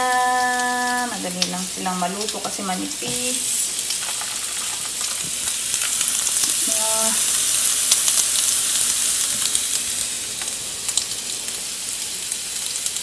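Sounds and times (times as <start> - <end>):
sausage sizzling with pops: 0.0 - 13.0.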